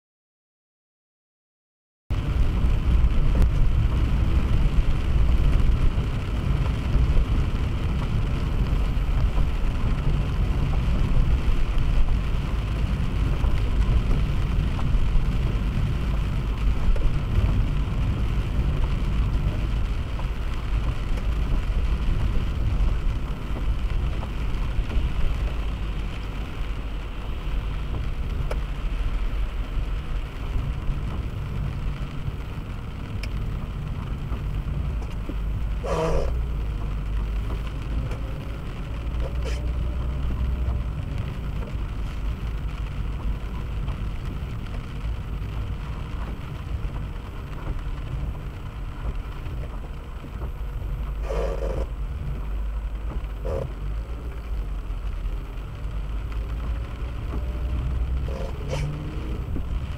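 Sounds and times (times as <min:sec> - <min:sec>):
car road noise rumble: 0:02.1 - 0:59.9.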